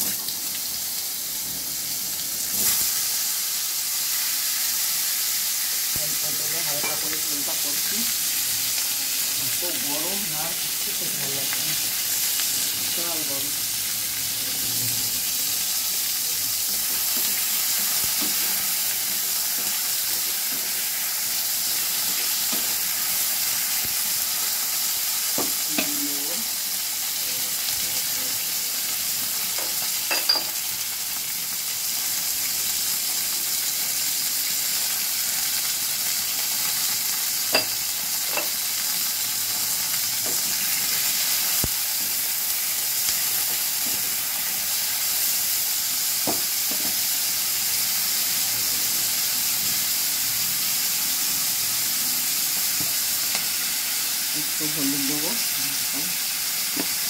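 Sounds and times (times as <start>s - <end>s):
vegetable pieces frying in oil: 0.0s - 57.0s.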